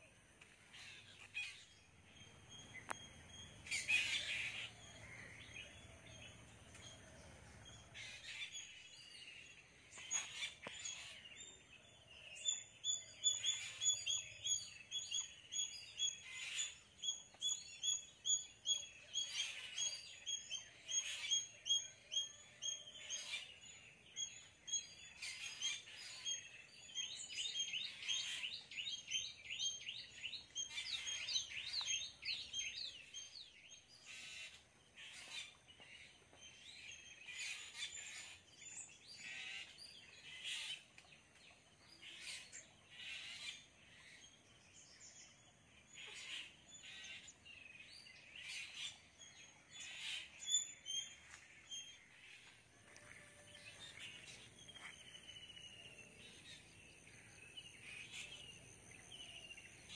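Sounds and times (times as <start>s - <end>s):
birds chirping and calling: 0.0s - 59.9s.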